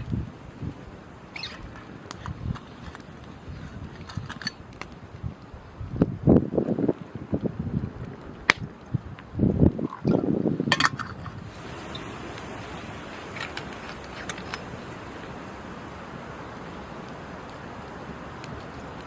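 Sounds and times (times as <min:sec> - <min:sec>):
campfire hissing and crackling: 0:00.0 - 0:19.0
campfire pops: 0:00.0 - 0:19.0.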